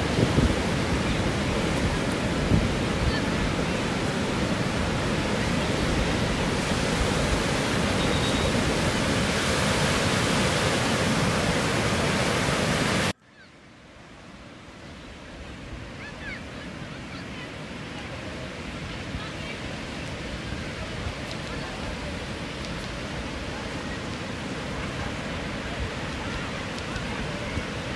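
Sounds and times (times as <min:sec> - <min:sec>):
sea waves rushing surf: 0:00.0 - 0:13.2, 0:13.9 - 0:27.9.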